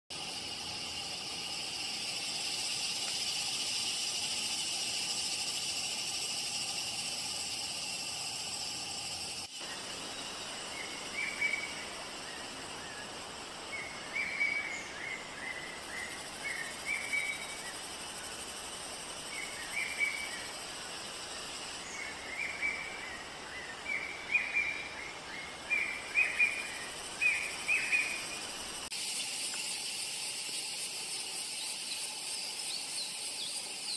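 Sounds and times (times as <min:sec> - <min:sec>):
high insect drone: 0:00.1 - 0:33.9
steady hiss: 0:00.1 - 0:33.9.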